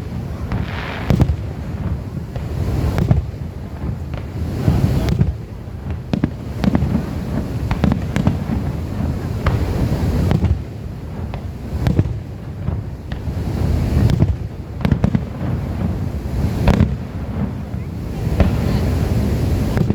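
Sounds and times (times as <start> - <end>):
fireworks bangs and crackling pops: 0.0 - 19.9.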